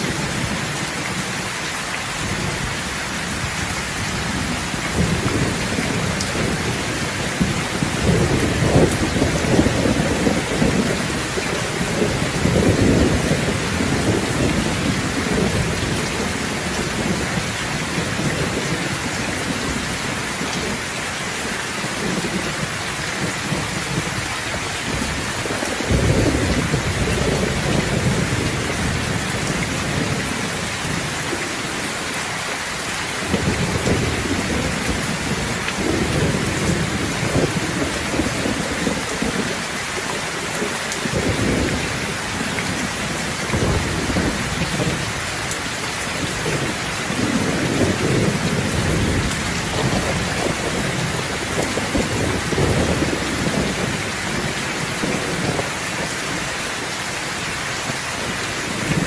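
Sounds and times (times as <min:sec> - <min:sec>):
thunder rumbling: 0:00.0 - 0:32.2, 0:33.1 - 0:56.6, 0:57.9 - 0:59.0
heavy rain falling: 0:00.0 - 0:59.0.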